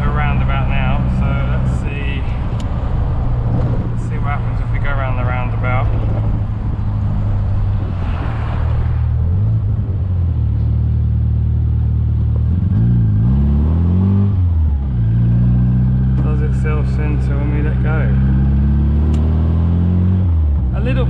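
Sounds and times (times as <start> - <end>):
car engine running: 0.0 - 8.0, 8.7 - 21.0.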